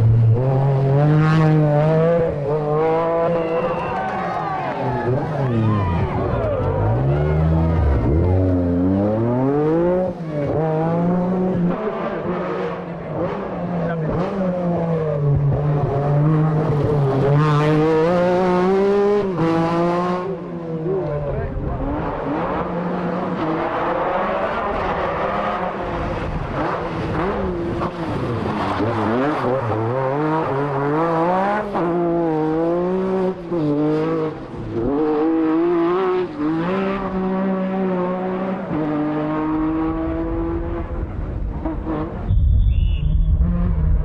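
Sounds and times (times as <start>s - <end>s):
rally car engine at high revs: 0.0s - 3.9s, 4.7s - 42.3s, 43.3s - 44.0s.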